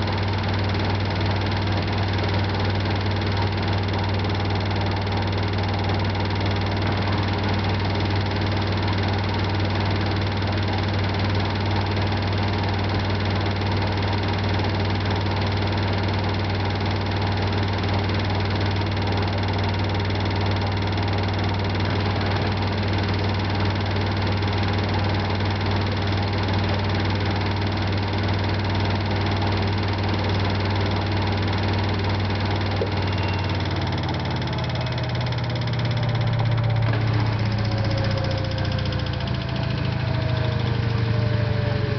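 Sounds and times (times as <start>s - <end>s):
washing machine drum spinning: 0.0s - 41.9s.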